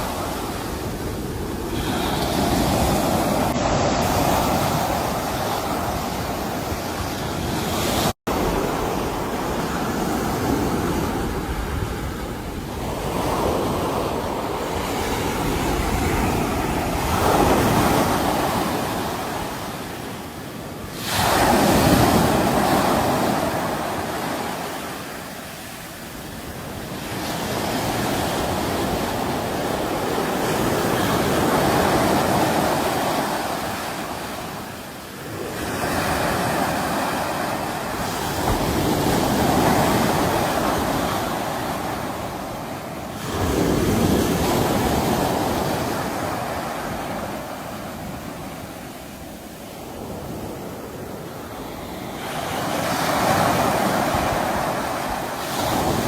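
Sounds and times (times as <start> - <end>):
sea waves breaking: 0.0 - 56.0.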